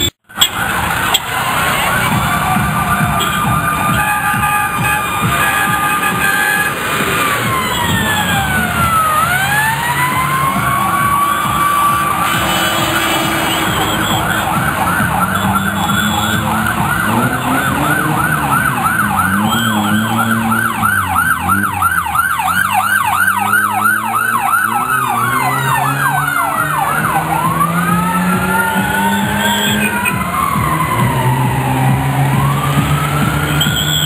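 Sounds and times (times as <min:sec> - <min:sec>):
passing vehicle engines: 0:00.0 - 0:34.0
vehicle siren yelping and wailing: 0:00.0 - 0:34.0.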